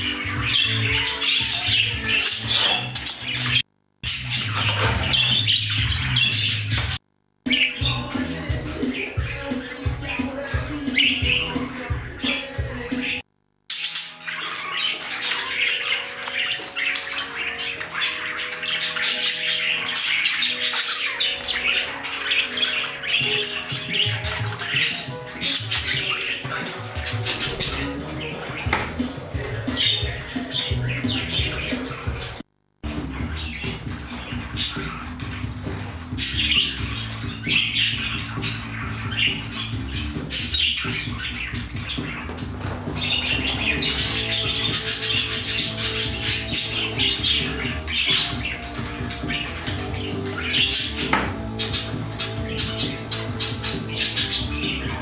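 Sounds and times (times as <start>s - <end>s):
budgerigar chirping and squawking: 0.0s - 8.1s, 8.8s - 55.0s
background music: 7.5s - 13.2s, 14.0s - 55.0s.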